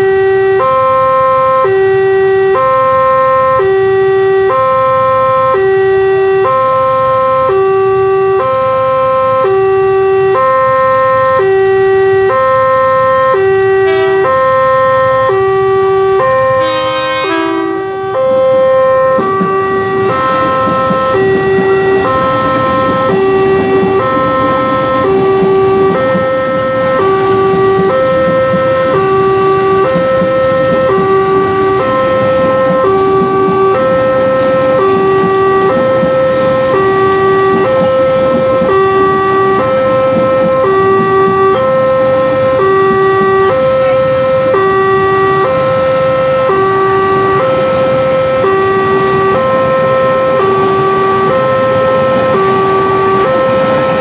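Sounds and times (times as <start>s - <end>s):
level crossing alarm two tones: 0.0s - 54.0s
trains rumbling: 0.0s - 54.0s.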